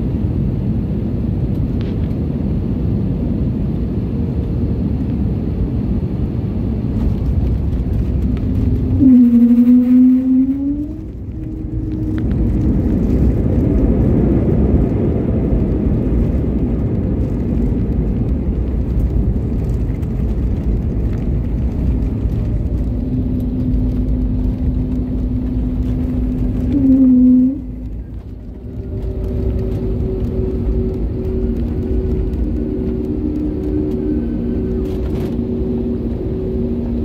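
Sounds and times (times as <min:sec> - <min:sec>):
airliner engines and wheels rumbling: 0:00.0 - 0:37.0.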